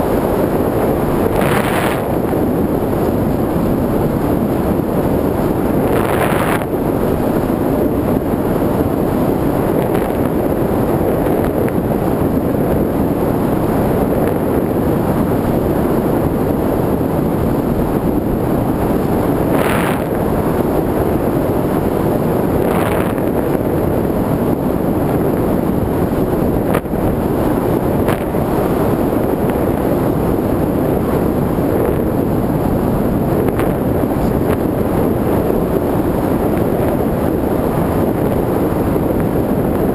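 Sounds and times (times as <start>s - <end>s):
wind rushing: 0.0s - 39.9s.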